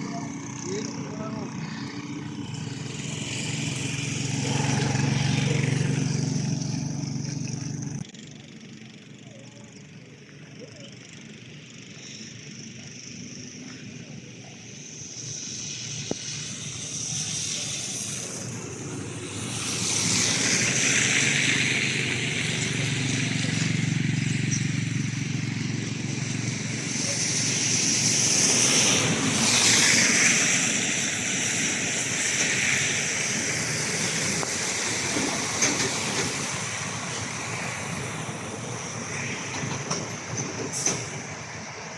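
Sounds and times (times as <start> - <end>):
broad rushing noise: 0.0 - 9.2, 11.2 - 41.9
motor vehicle running: 0.0 - 41.9.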